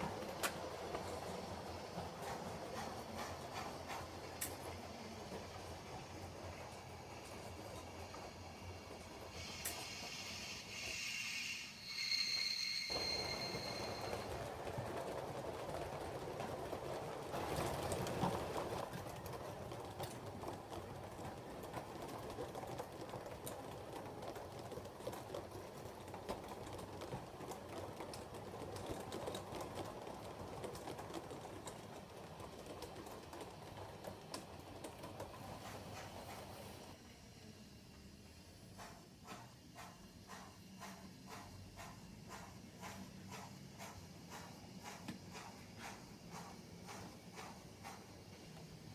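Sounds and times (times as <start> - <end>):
train wheels clicking on track: 0.0 - 48.9.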